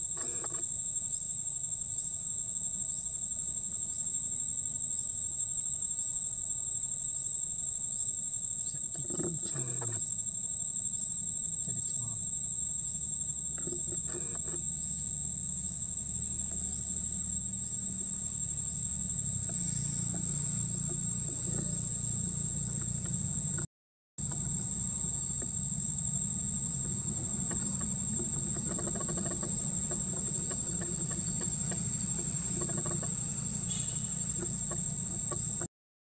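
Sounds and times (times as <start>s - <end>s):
high-pitched insect drone: 0.0s - 35.7s.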